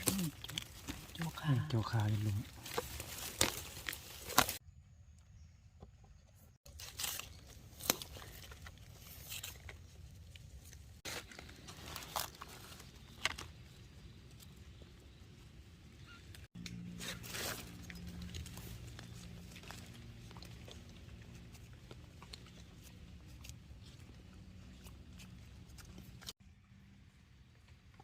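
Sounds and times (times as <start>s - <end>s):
rustling dry leaves: 0.0s - 4.6s, 6.7s - 15.8s, 16.8s - 26.3s.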